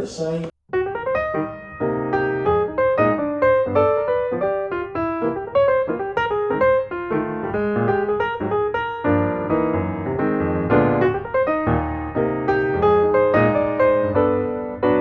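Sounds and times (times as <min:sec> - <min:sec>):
piano music: 0:00.7 - 0:15.0.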